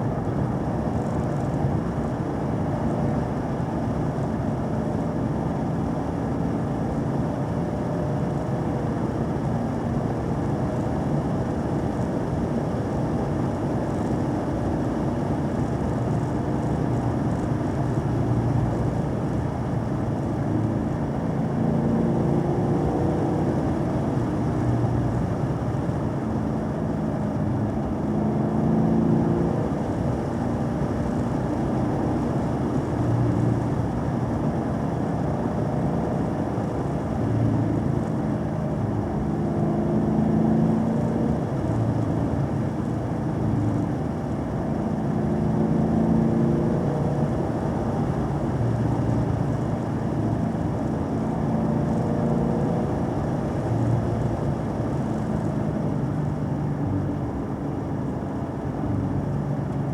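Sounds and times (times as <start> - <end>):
road noise rumble: 0.0 - 59.9.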